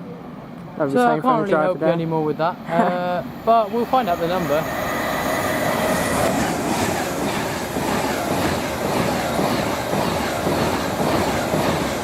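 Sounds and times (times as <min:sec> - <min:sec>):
electric train passing: 0:01.6 - 0:12.0.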